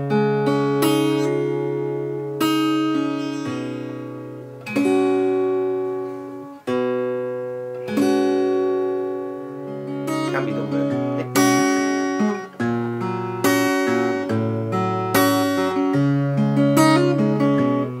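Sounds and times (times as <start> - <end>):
acoustic guitar chords: 0.0 - 18.0.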